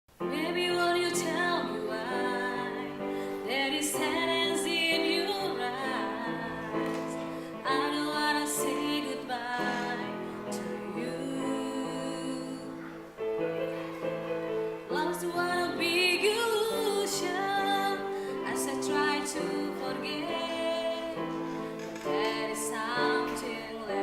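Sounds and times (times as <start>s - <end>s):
person singing: 0.2s - 24.0s.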